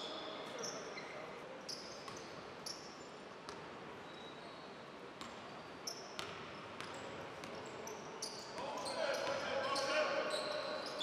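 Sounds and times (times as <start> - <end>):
arena hall noise: 0.0 - 11.0
sneakers squeaking on floor: 0.0 - 11.0.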